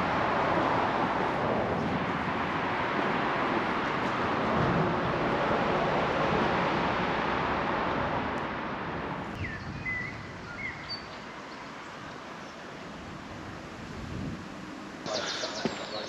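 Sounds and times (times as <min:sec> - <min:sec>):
outdoor ambience: 0:00.0 - 0:16.0.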